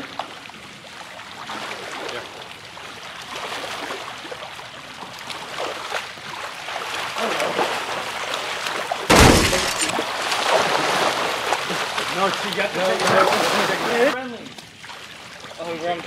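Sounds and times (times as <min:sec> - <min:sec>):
pool water splashing: 0:00.0 - 0:16.0.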